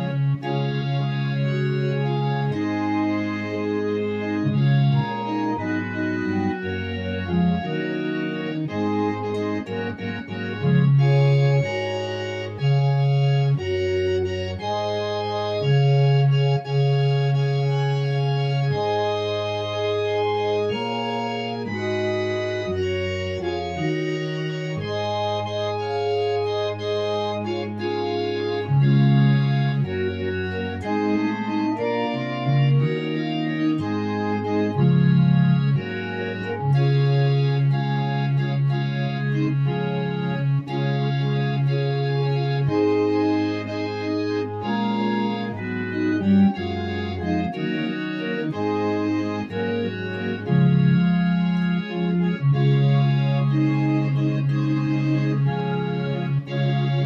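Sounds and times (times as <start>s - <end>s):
organ held bass note: 0.0s - 57.0s
organ sustained chords: 0.0s - 57.0s.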